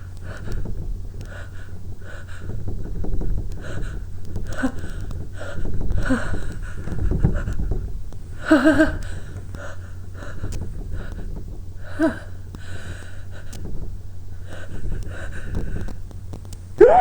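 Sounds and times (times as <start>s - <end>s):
woman breathing heavily with gasps: 0.2s - 13.7s, 14.3s - 16.0s.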